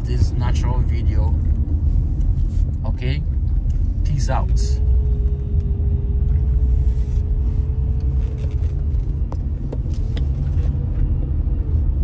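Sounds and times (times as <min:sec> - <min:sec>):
engine and tyre rumble in car: 0:00.0 - 0:12.0
faint steady whine: 0:00.0 - 0:12.0.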